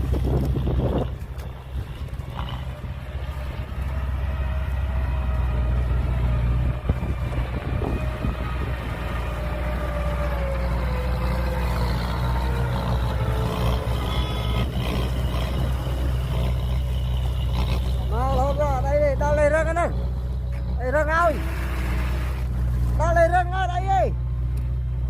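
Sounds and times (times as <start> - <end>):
diesel machinery engine drone: 0.0 - 25.0
machinery whine: 0.0 - 25.0.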